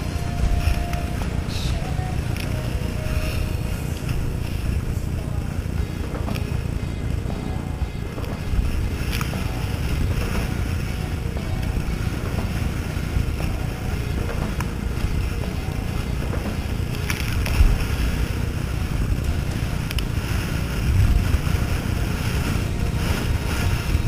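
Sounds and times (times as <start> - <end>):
rough sea splashing: 0.0 - 24.0
wind buffeting microphone: 0.0 - 24.0.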